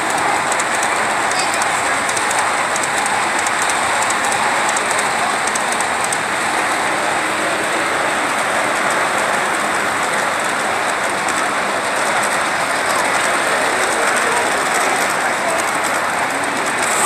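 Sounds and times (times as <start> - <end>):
model train wheels on rails: 0.0 - 17.0.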